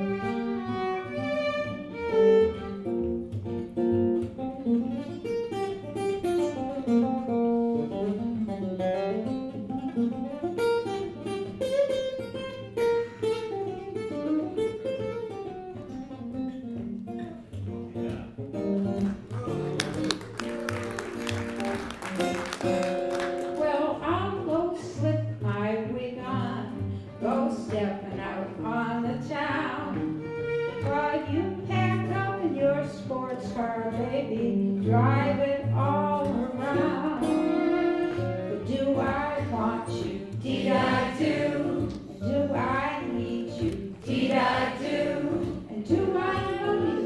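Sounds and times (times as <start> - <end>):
acoustic guitar playing: 0.0 - 47.0.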